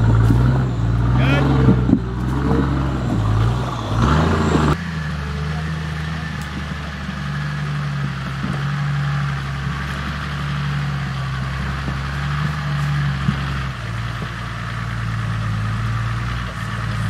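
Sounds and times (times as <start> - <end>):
diesel engine running at low revs: 0.0 - 17.0.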